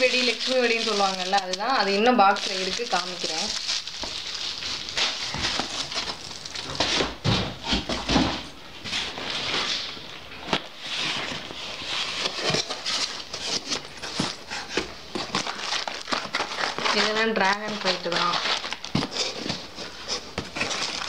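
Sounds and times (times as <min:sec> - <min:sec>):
cardboard rustling and scraping: 0:00.0 - 0:21.0.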